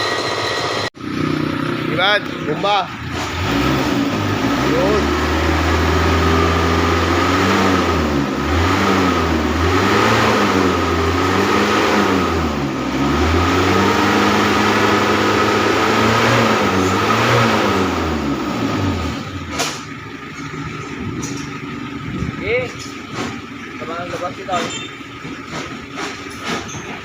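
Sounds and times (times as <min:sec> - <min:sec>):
car engine revving: 0:00.0 - 0:26.6.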